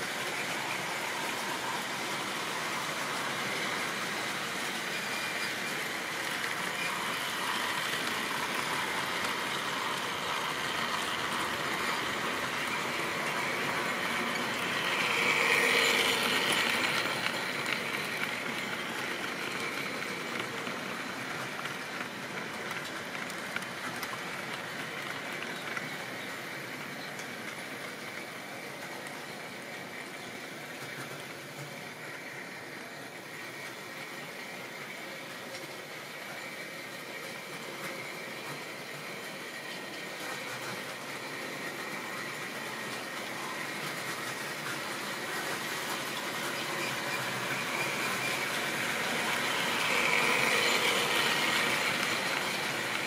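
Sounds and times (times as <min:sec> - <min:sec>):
model train wheels clattering: 0:00.1 - 0:53.0.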